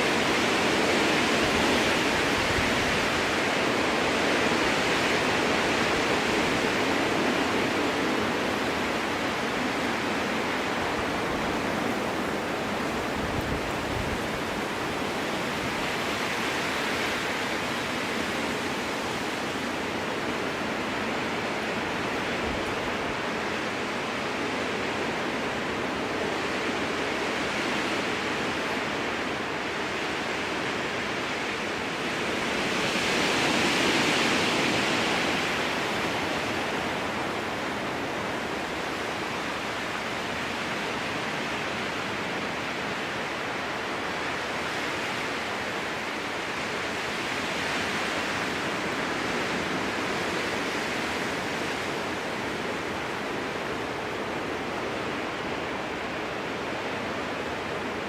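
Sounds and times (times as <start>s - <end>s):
strong wind through forest: 0.0s - 58.0s.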